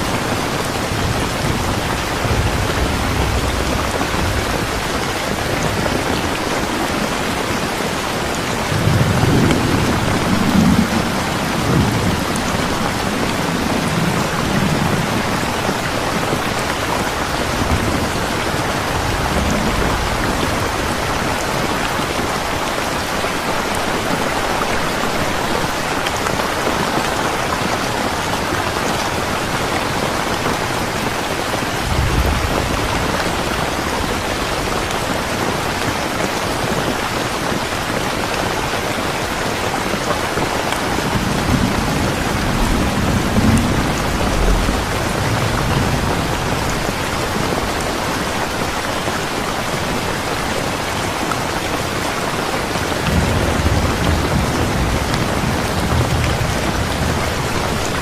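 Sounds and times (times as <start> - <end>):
thunder rumbling: 0.0 - 39.4, 40.1 - 50.1, 52.7 - 58.0
steady rain falling: 0.0 - 58.0.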